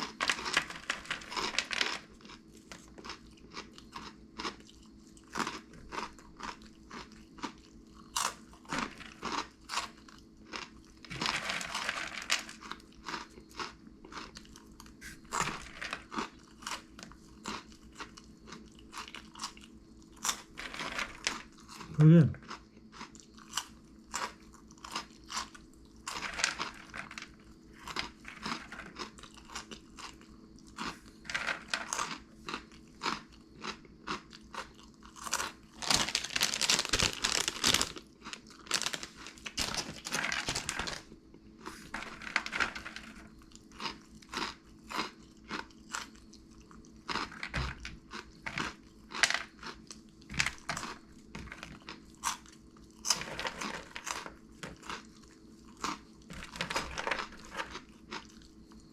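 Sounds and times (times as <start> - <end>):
crunching and chewing snacks: 0.0 - 58.9.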